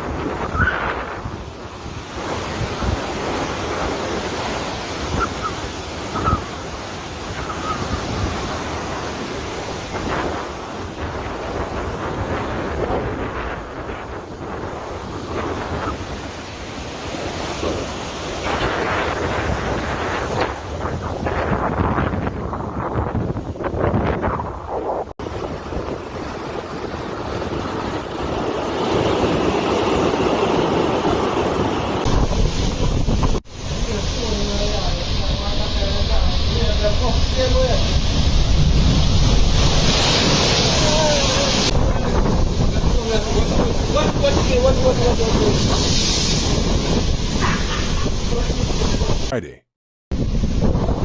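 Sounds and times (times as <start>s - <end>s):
rough water surging: 0.0s - 21.8s, 25.2s - 49.3s
wind buffeting microphone: 0.0s - 49.3s, 50.1s - 51.0s.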